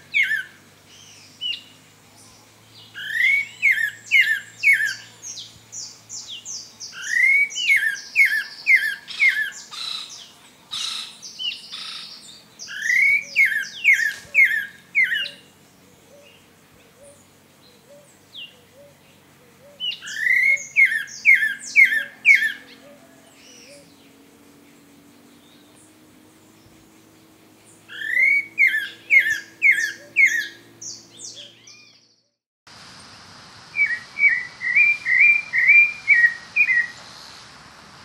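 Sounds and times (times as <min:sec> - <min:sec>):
thrush singing: 0:00.0 - 0:31.6.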